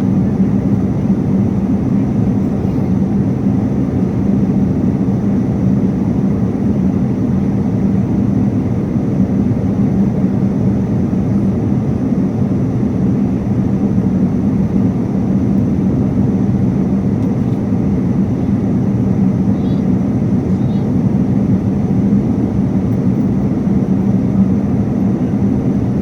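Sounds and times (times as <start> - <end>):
airliner cabin engine rush: 0.0 - 26.0
constant low hum: 0.0 - 26.0.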